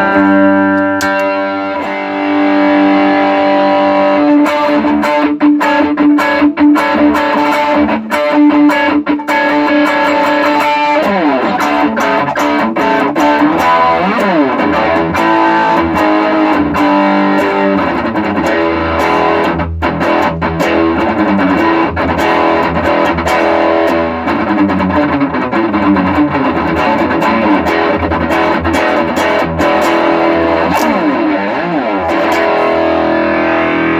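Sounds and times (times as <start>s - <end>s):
electric guitar with effects: 0.0s - 33.9s.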